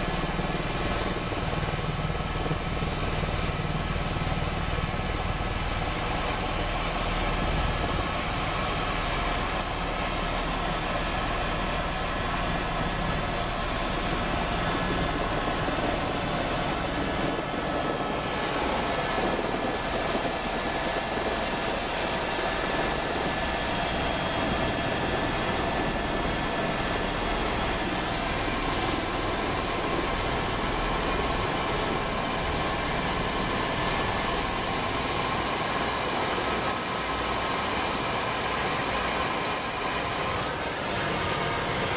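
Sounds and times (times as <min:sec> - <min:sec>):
helicopter turbine and rotor: 0:00.0 - 0:41.9.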